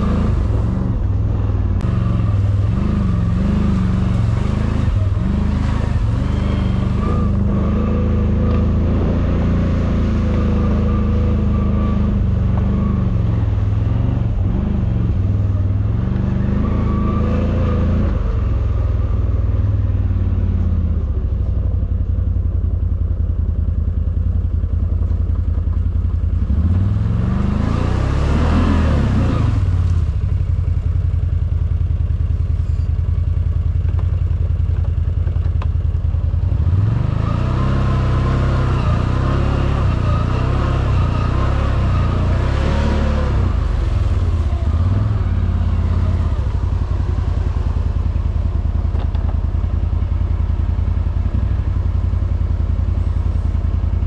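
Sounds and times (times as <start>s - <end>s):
motorcycle engine revving: 0.0s - 21.4s, 23.0s - 54.0s.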